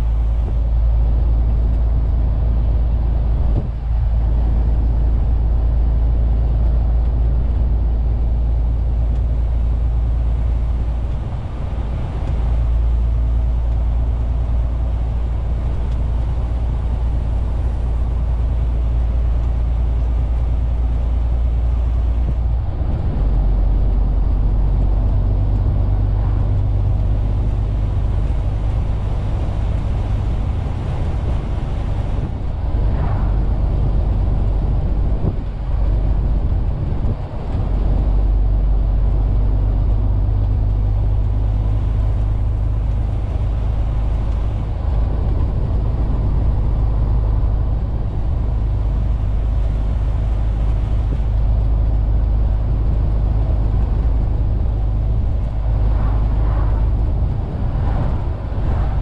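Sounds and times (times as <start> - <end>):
diesel truck engine drone: 0.0 - 59.0
road noise: 0.0 - 59.0.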